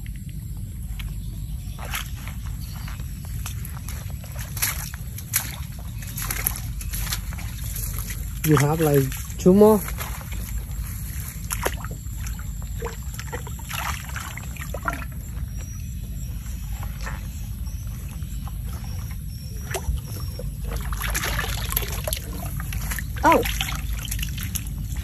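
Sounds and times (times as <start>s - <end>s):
low rumble: 0.0s - 25.0s
mud squelching: 0.1s - 25.0s
water sloshing: 0.3s - 25.0s
small splashes: 3.4s - 15.8s, 16.6s - 25.0s.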